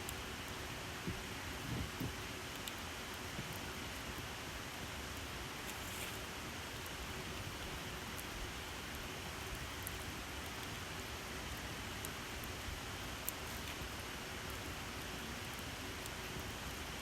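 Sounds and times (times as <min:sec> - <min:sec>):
campfire hiss: 0:00.0 - 0:17.0
fire crackles: 0:00.0 - 0:17.0.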